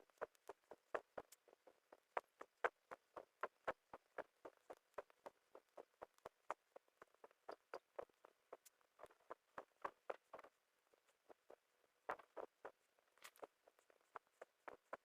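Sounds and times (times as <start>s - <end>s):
quick uneven tapping: 0.0s - 15.0s.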